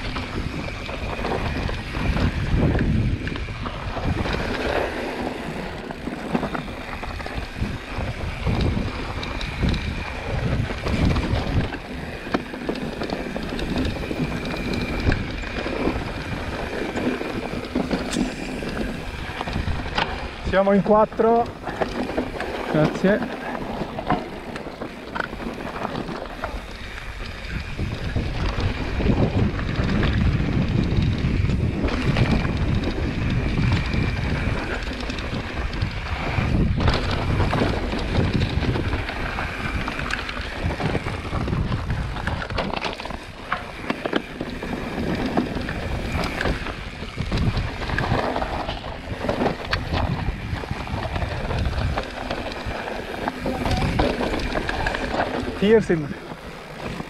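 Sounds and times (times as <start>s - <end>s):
bike knocks and rattles: 0.0s - 57.0s
bike tyres rumbling on rocky trail: 0.0s - 57.0s
wind buffeting microphone: 0.0s - 57.0s.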